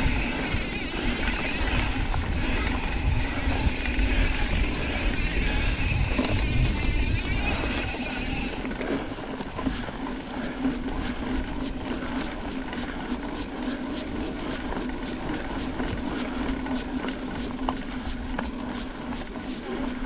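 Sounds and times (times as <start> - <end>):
bike tyres rolling on dirt: 0.0 - 20.0.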